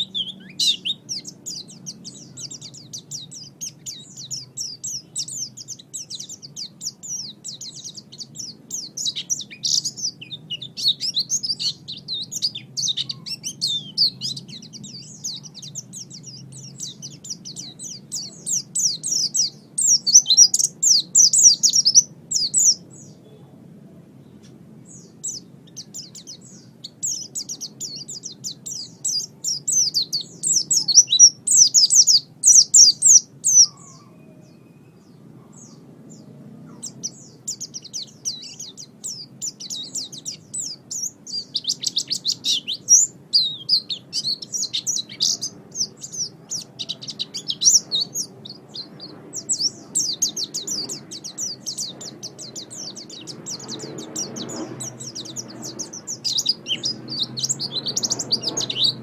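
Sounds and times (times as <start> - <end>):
bird twittering song: 0.0 - 23.6, 24.2 - 59.0.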